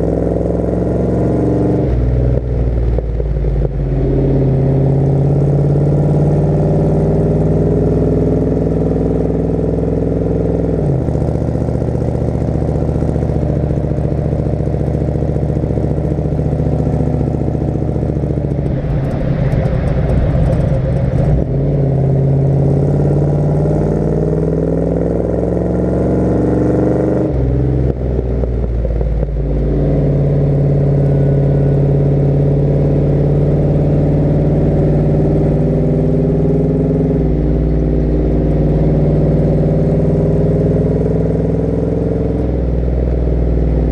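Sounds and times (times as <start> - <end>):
pickup truck engine driving: 0.0 - 43.9.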